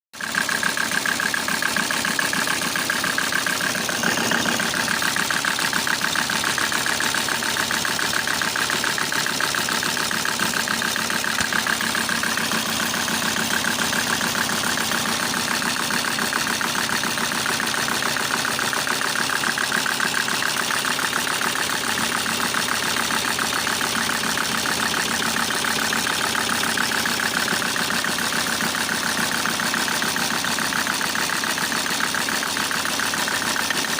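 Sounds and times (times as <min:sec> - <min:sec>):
diesel engine idling with knock: 0:00.2 - 0:33.9.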